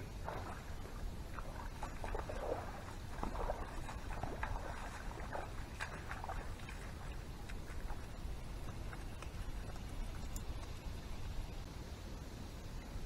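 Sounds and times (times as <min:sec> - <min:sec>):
person wading through shallow water: 0:00.0 - 0:11.5.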